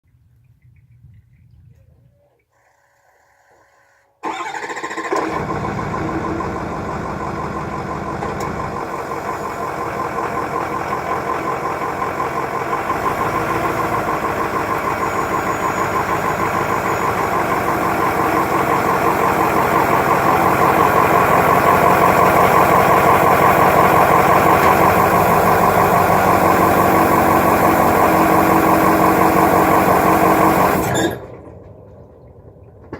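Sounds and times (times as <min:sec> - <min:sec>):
diesel engine running: 0:04.2 - 0:32.9.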